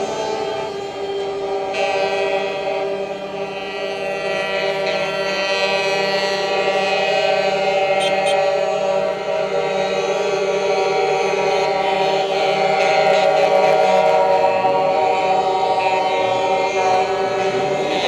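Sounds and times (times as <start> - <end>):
truck air horns chord: 0.0 - 9.3, 10.3 - 18.0.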